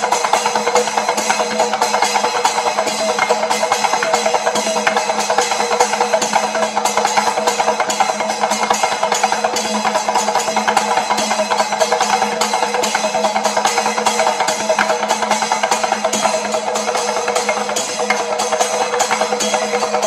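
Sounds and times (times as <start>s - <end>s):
hand cymbals clashing: 0.0s - 20.0s
hourglass drums struck by hand: 0.0s - 20.0s.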